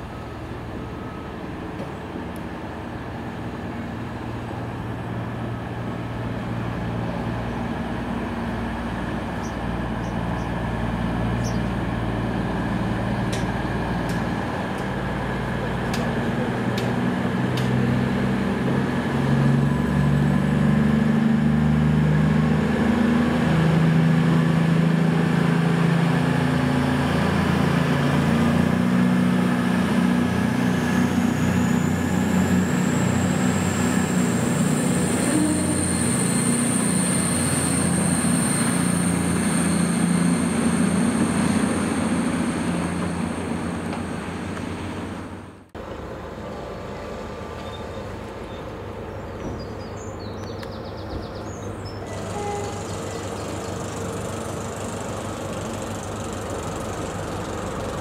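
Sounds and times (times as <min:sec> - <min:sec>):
train engine drone: 0:00.0 - 0:58.0.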